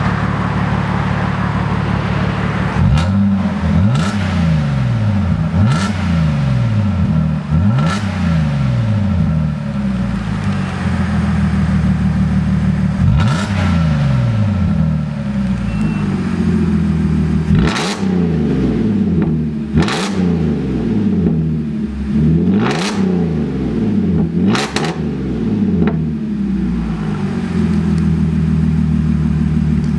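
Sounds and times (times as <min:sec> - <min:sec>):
car engine idling and revving: 0:00.0 - 0:29.9.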